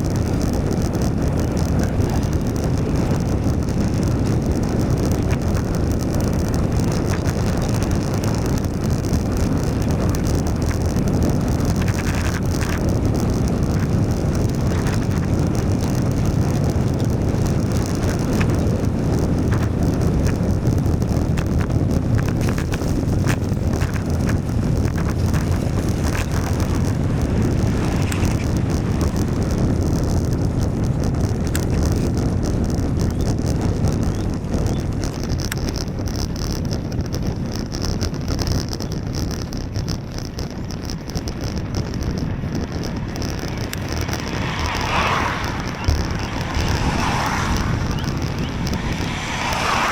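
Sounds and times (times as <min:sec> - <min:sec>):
tyres on wet road: 0:00.0 - 0:49.9
wind rush over microphone: 0:00.0 - 0:49.9.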